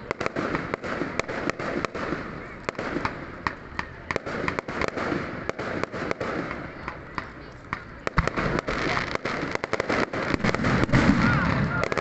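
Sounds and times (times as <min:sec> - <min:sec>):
continuous din: 0:00.0 - 0:12.0
fireworks bangs and cracks: 0:00.0 - 0:12.0.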